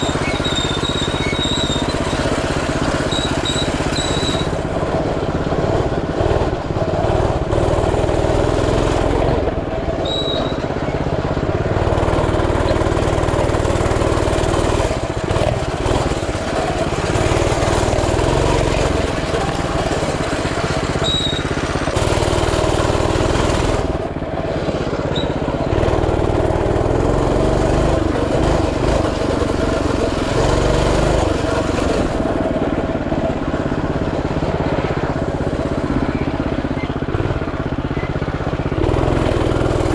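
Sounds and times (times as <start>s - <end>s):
mini bike engine revving: 0.0s - 39.9s.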